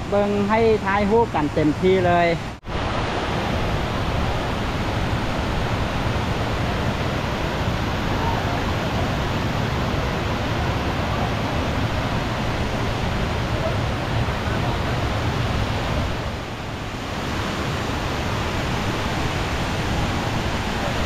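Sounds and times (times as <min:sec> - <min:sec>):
water rushing down cascades: 0:00.0 - 0:21.0.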